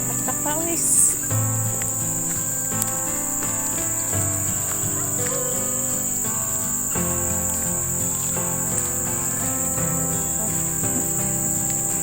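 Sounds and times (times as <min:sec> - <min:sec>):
background music with held notes: 0:00.0 - 0:12.0
high-pitched insect drone: 0:00.0 - 0:12.0.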